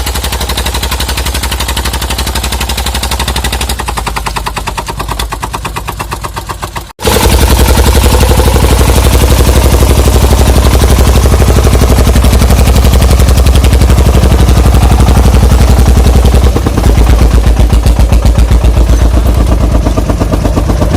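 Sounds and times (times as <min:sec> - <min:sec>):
diesel engine chugging: 0:00.0 - 0:20.9.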